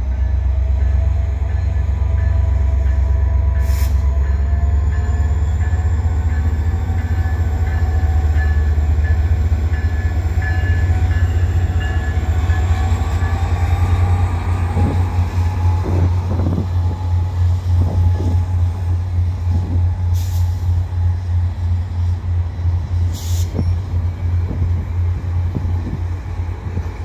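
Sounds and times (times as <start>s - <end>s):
diesel locomotive engine rumble: 0.0s - 27.0s.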